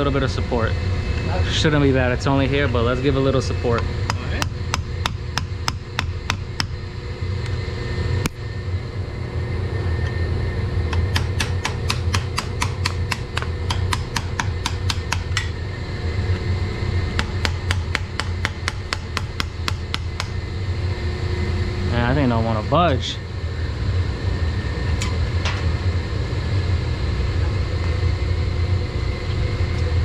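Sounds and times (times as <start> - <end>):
machinery humming: 0.0 - 30.0.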